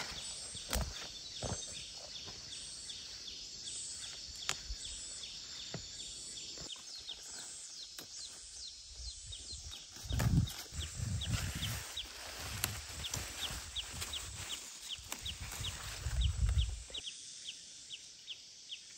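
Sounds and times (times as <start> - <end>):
leaves rustling: 0.0 - 17.0
bird chirping: 0.0 - 18.9.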